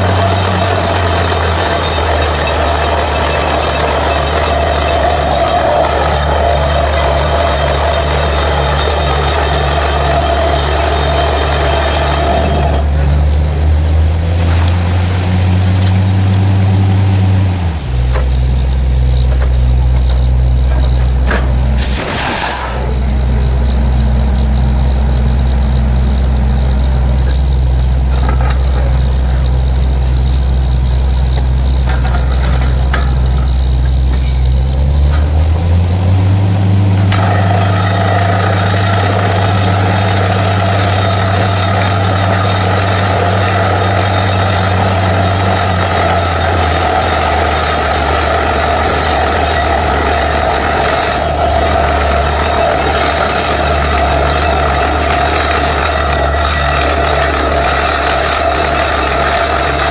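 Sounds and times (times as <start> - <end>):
drilling rig diesel engine: 0.0 - 59.9.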